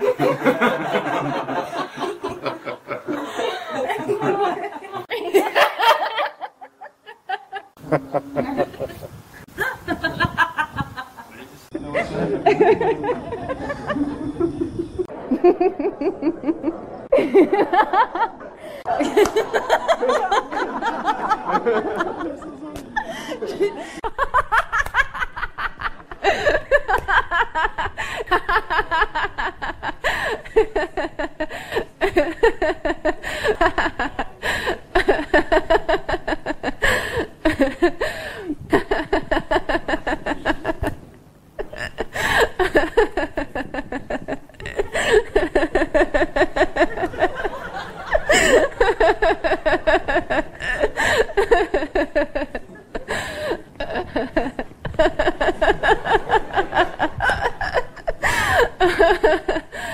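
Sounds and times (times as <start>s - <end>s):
people laughing heartily: 0.0s - 41.0s, 41.6s - 59.9s.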